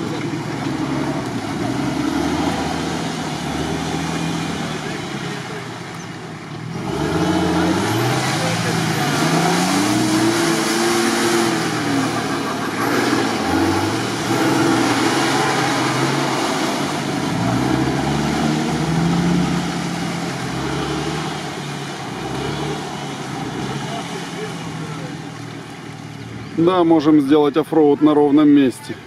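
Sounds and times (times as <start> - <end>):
off-road vehicle engine revving: 0.0 - 29.0.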